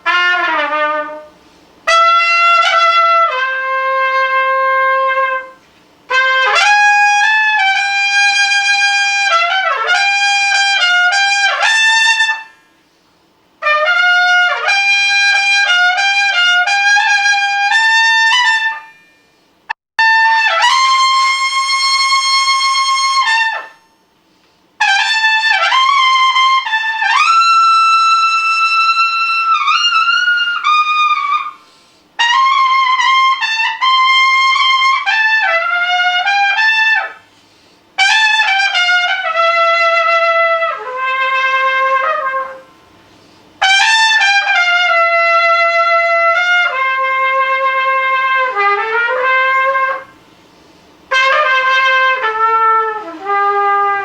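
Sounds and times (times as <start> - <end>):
brass instrument solo: 0.0 - 12.7, 13.6 - 19.1, 20.0 - 23.9, 24.8 - 37.3, 38.0 - 42.9, 43.6 - 50.3, 51.0 - 54.0.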